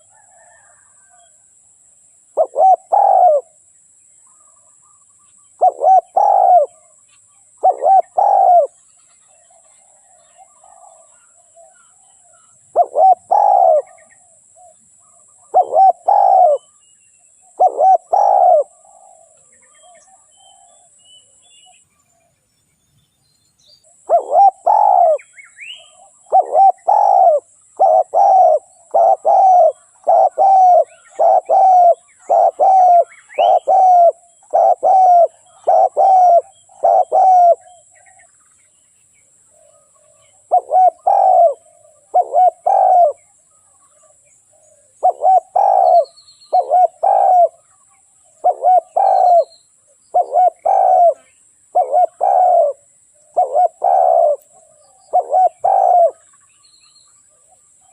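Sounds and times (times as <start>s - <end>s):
dove cooing: 0.0s - 1.4s, 2.3s - 3.7s, 5.5s - 7.0s, 7.6s - 16.8s, 17.4s - 21.0s, 23.9s - 38.3s, 39.6s - 56.4s
small birds chirping: 2.3s - 57.9s.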